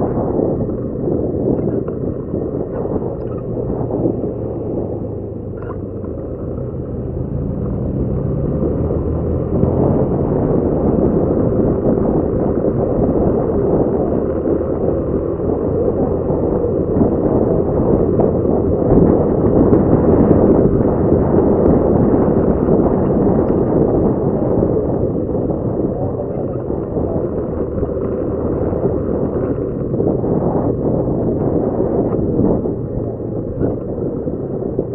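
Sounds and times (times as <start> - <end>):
motorcycle engine drone: 0.0 - 34.9
wind buffeting microphone: 0.0 - 34.9.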